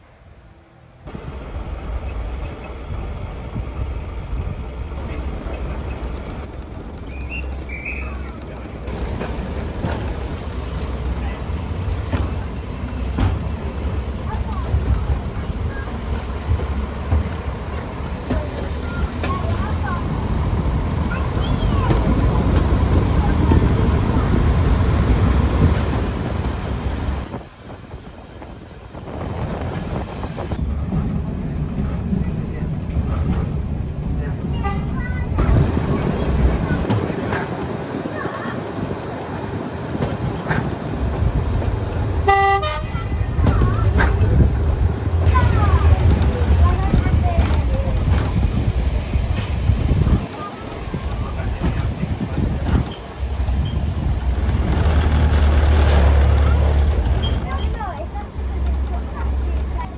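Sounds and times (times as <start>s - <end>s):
wheel and rail noise: 0.0s - 59.9s
diesel engine rumble: 0.2s - 59.9s.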